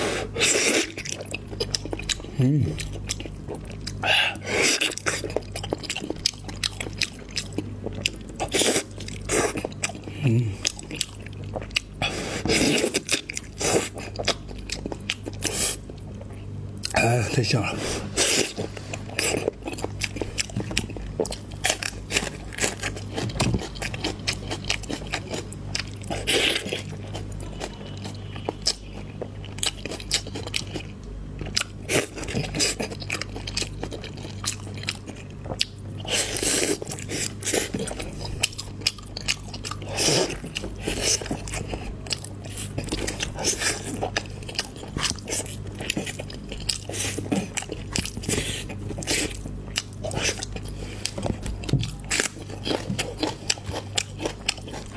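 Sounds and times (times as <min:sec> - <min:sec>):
crunchy wet chewing: 0:00.0 - 0:54.9
low steady hum: 0:00.0 - 0:54.9.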